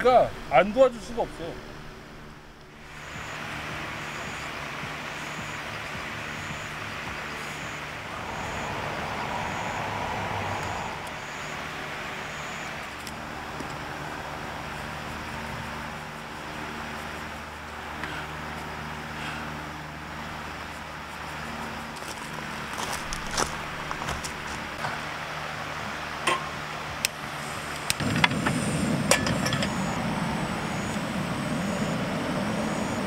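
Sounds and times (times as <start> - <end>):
broad rushing noise: 0.0 - 33.0
low mechanical hum: 0.0 - 33.0.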